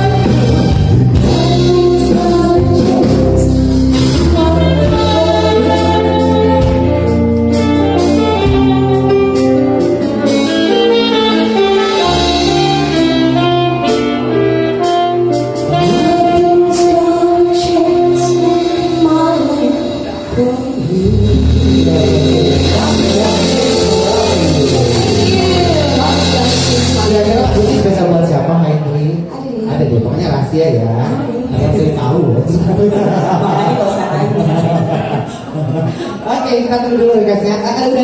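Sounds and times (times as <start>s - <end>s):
live band with singer: 0.0s - 38.0s.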